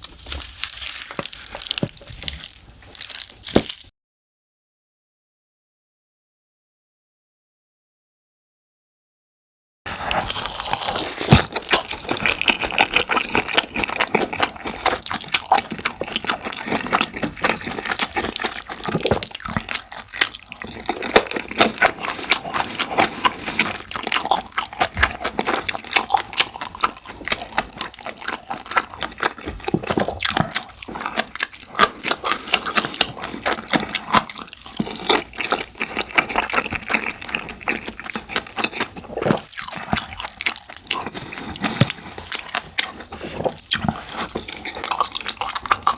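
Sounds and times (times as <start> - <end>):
person chewing food: 0.0 - 3.9, 9.9 - 45.9.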